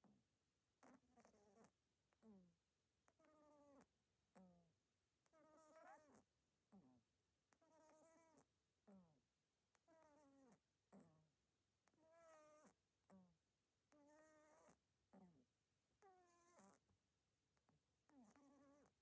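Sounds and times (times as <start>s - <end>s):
small pet squeaking: 0.8s - 2.5s, 3.1s - 17.0s, 17.6s - 19.0s.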